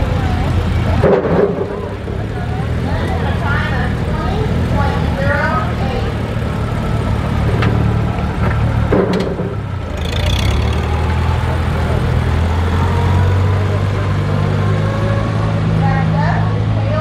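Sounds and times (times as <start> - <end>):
tractor engine running slowly: 0.0 - 17.0.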